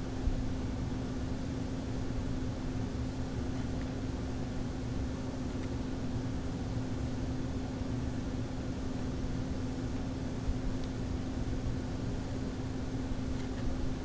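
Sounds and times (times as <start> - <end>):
room tone hum and hiss: 0.0 - 14.0.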